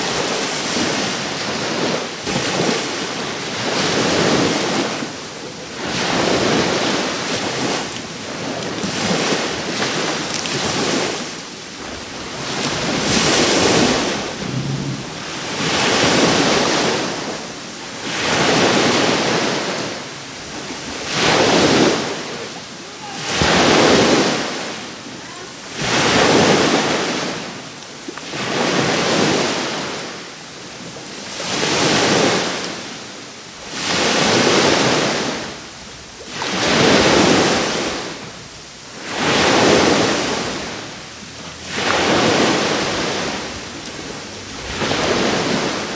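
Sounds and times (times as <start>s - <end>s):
sea waves breaking on shore: 0.0s - 45.9s.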